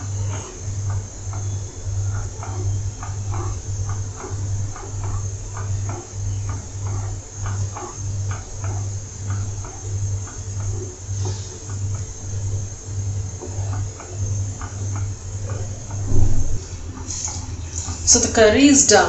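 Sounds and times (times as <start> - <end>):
pulsing low hum: 0.0 - 19.0.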